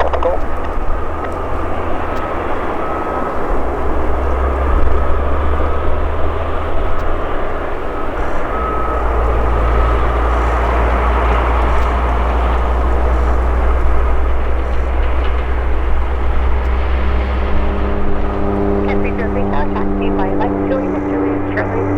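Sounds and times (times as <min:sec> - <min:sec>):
jet engine rumble: 0:00.0 - 0:21.9.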